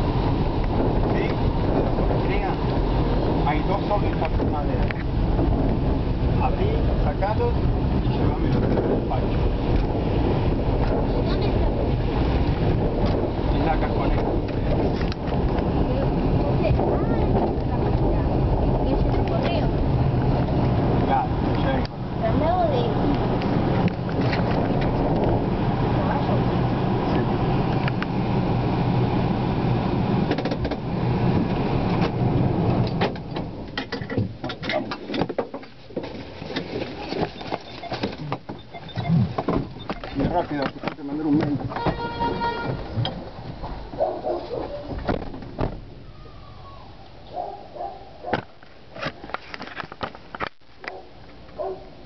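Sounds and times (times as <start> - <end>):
engine and road rumble: 0.0 - 52.0.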